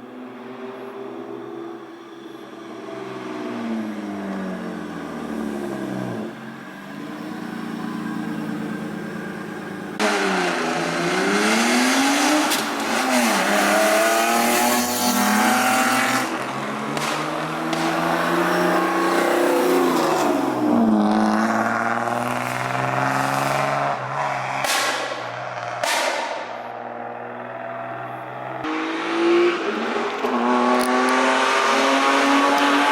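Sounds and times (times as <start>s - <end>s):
car engine revving: 0.4s - 32.9s.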